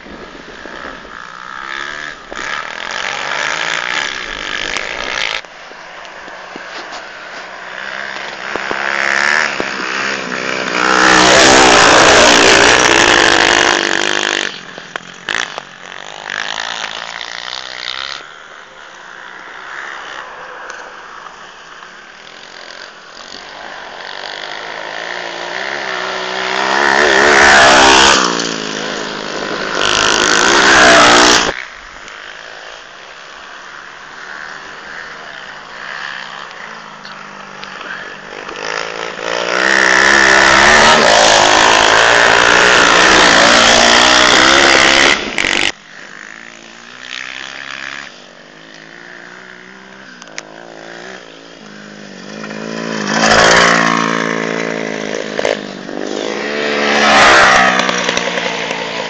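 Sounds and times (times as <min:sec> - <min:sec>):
small motorbike engines revving: 0:00.0 - 0:59.0.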